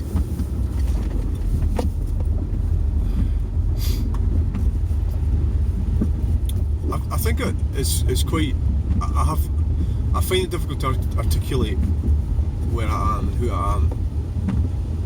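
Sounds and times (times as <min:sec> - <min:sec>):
car cabin low rumble: 0:00.0 - 0:15.0.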